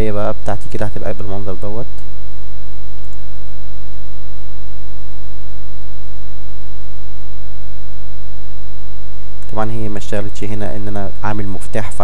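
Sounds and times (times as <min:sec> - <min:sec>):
electrical mains hum: 0:00.0 - 0:12.0
faint high whine: 0:00.0 - 0:12.0.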